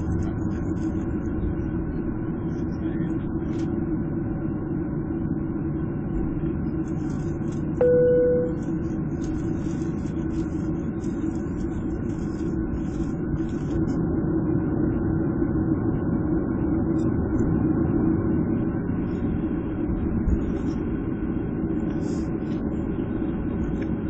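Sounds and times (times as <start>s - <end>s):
jet engines humming in cabin: 0.0s - 24.0s.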